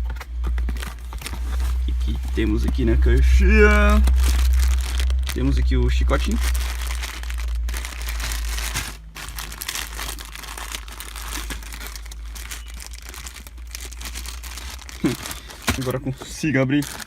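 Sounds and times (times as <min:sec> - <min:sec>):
plastic packaging crinkling: 0:00.0 - 0:03.2, 0:03.8 - 0:17.0.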